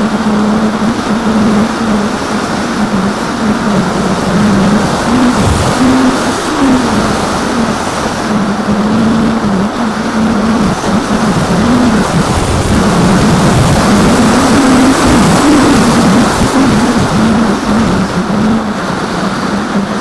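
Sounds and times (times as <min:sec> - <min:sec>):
electric motor and propeller buzzing: 0:00.0 - 0:20.0
wind rushing: 0:00.0 - 0:20.0.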